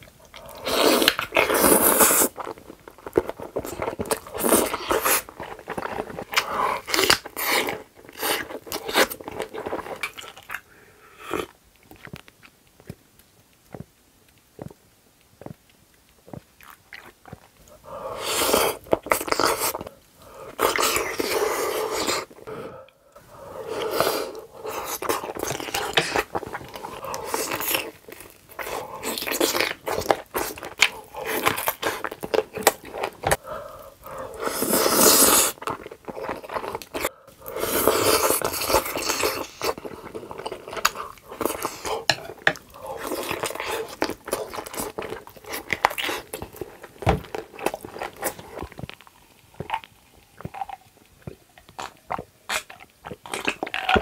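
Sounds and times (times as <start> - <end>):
wet chewing and smacking: 0.0 - 10.7, 11.4 - 17.8, 24.3 - 33.4, 34.0 - 37.1, 37.8 - 54.0.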